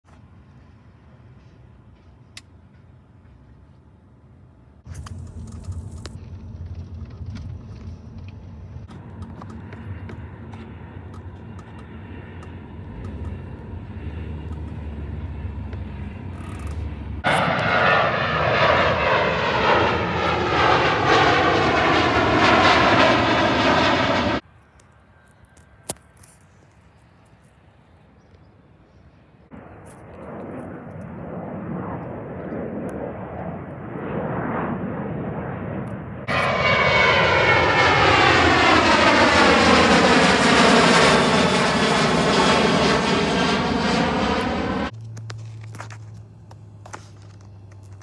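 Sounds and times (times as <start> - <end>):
aircraft drone: 0.1 - 48.0
jet airliner passing overhead: 0.2 - 48.0.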